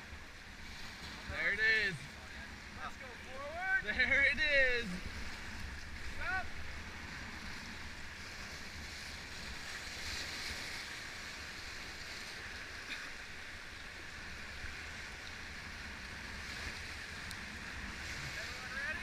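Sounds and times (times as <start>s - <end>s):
whitewater rushing: 1.0s - 15.1s, 16.6s - 19.0s.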